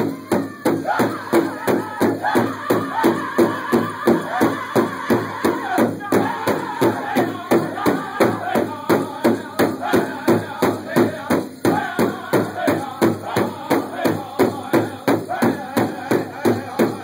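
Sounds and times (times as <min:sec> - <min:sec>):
large hide drum beating: 0:00.0 - 0:17.0
men singing: 0:00.0 - 0:17.0.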